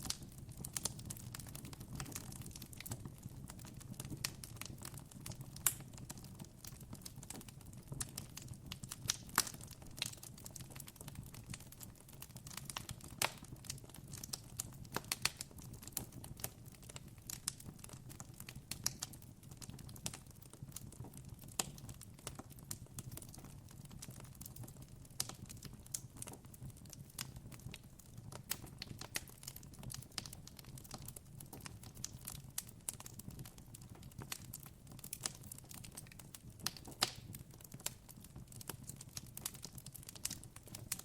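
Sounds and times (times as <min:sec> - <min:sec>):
campfire crackling: 0:00.0 - 0:11.1, 0:11.8 - 0:19.2, 0:24.0 - 0:41.0.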